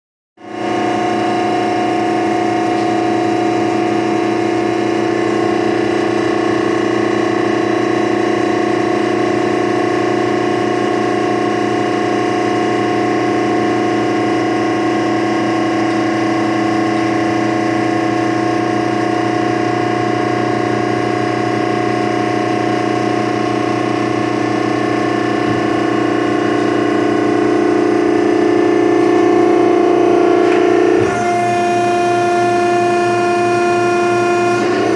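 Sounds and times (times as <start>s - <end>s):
baler machinery humming: 0.5s - 34.9s.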